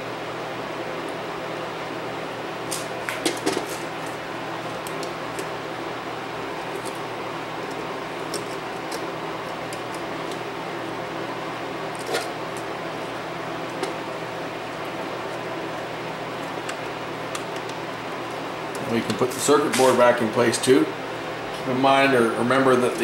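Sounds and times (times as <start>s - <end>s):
fan-like hiss and hum: 0.0s - 23.0s.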